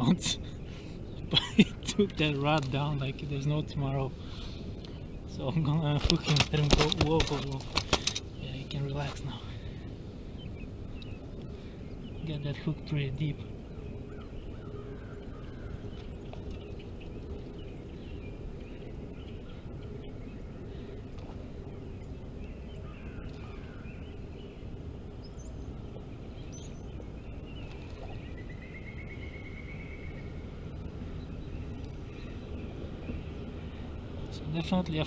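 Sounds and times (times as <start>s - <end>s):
birds chirping: 0.0s - 35.0s
low background rumble: 0.0s - 35.0s.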